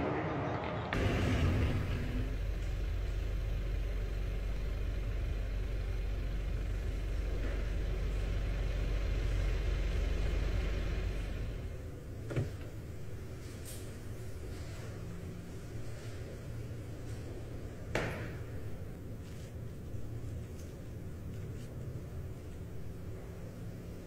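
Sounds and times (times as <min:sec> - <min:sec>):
car engine low rumble: 0:01.0 - 0:24.0.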